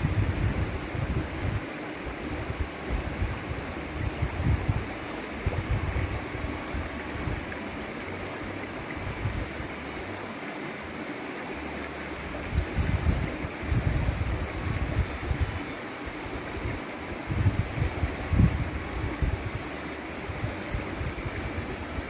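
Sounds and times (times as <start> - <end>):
wind buffeting microphone: 0.0 - 10.2, 12.2 - 22.0
stream water rushing: 0.0 - 22.0.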